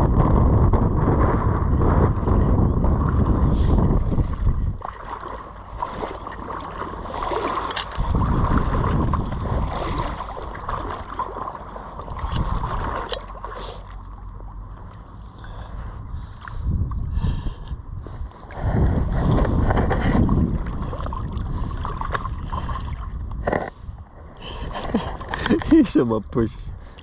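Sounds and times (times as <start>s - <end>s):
wind rumbling on microphone: 0.0s - 27.0s
floodwater splashing and trickling: 1.7s - 27.0s.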